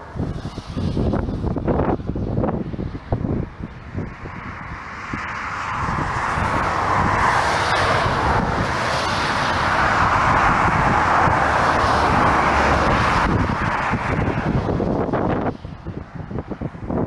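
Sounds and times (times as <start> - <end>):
jet airliner engine noise: 0.0 - 17.0
wind buffeting microphone: 0.0 - 17.0.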